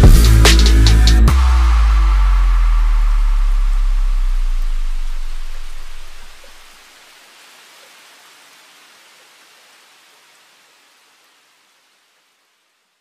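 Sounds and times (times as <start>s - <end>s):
rain-like hiss: 0.0s - 13.0s.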